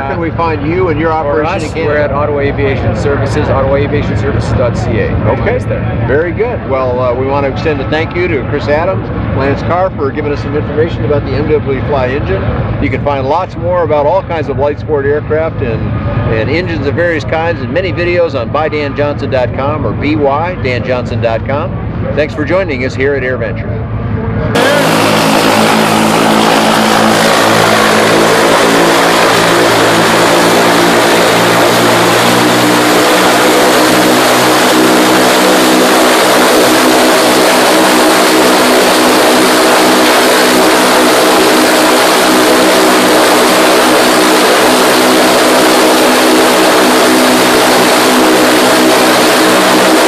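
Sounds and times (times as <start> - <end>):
aircraft engine droning: 0.0 - 50.0.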